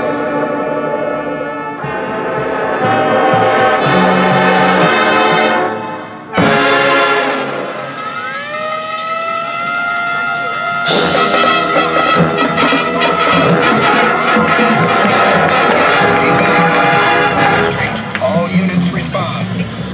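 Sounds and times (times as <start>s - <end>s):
marching band playing: 0.0s - 18.5s
brass chords: 0.0s - 18.8s.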